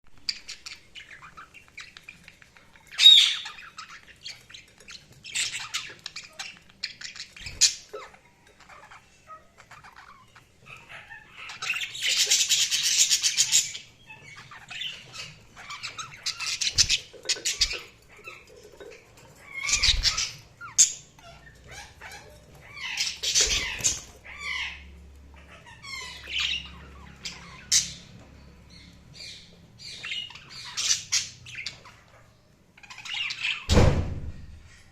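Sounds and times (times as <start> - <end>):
budgerigars chirping: 0.2 - 33.8.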